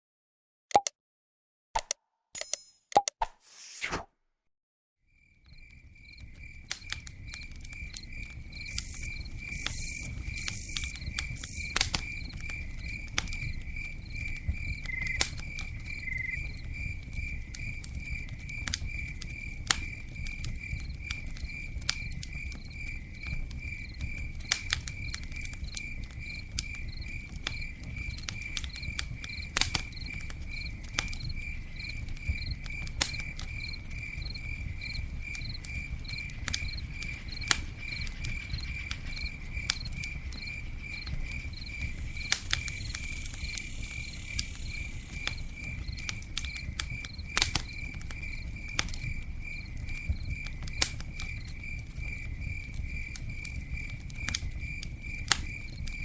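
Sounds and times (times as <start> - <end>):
cricket chirping: 5.1 - 56.0
campfire crackling and popping: 5.4 - 56.0.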